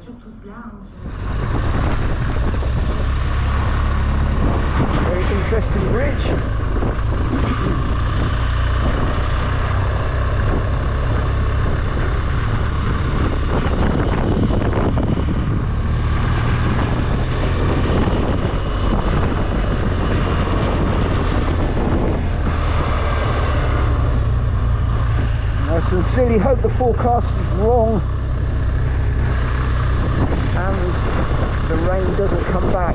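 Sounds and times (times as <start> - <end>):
wind and road rush: 0.9 - 32.9
motorcycle engine running: 1.0 - 32.9.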